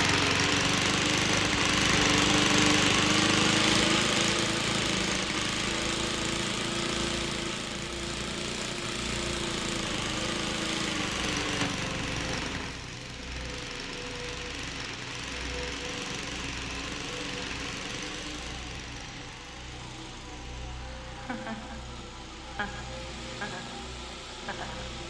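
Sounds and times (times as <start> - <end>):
engine-like drone: 0.0 - 25.0.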